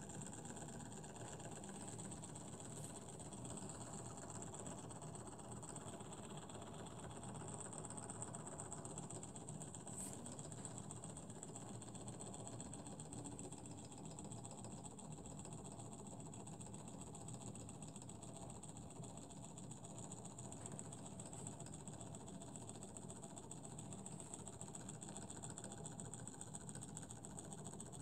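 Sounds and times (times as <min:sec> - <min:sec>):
model engine ticking clatter: 0:02.2 - 0:28.0.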